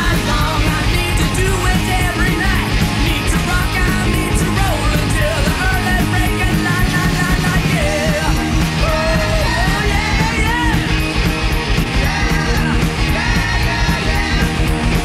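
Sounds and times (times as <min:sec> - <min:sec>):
heavy metal band playing: 0:00.0 - 0:15.0.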